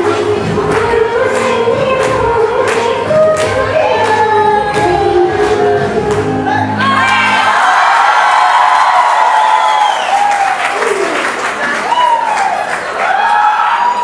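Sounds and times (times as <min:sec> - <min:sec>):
audience clapping and cheering: 0:00.0 - 0:14.0.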